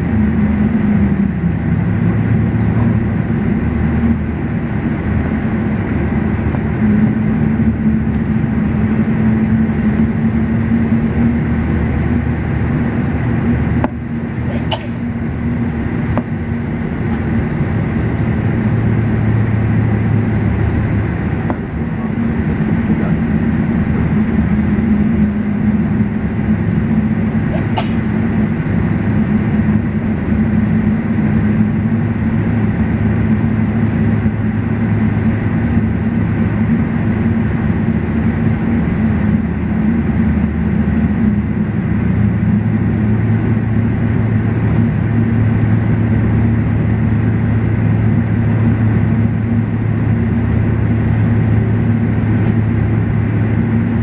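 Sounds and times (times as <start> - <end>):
jet engines idling: 0.0 - 54.0
low rolling rumble: 0.0 - 54.0
steady hums: 0.0 - 54.0.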